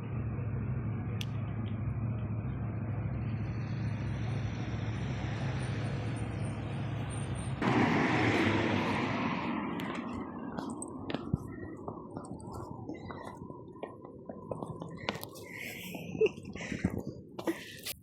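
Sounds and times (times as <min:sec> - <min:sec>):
passing vehicles hissing: 0:00.0 - 0:17.3
low engine hum: 0:00.0 - 0:18.0.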